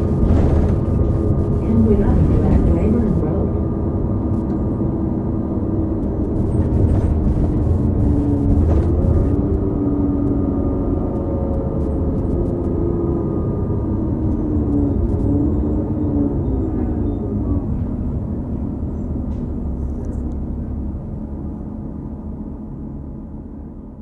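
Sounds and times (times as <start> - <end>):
transmission whine: 0.0 - 21.3
diesel bus engine rumble: 0.0 - 24.0.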